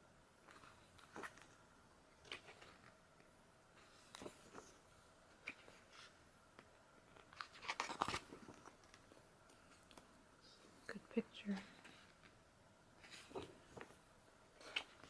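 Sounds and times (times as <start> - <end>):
book pages rustling: 0.4 - 10.8, 13.0 - 15.0.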